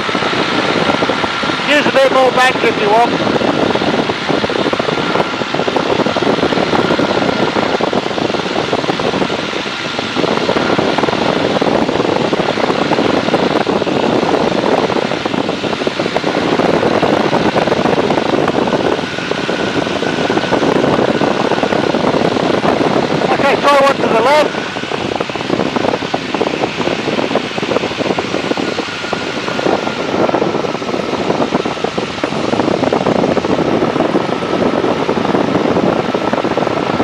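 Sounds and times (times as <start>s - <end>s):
biplane engine and propeller: 0.0s - 37.0s
wind noise: 0.0s - 37.0s.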